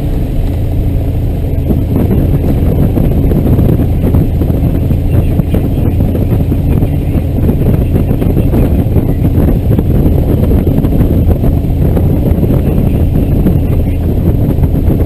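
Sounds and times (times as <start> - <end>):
aircraft piston engine drone: 0.0 - 15.0.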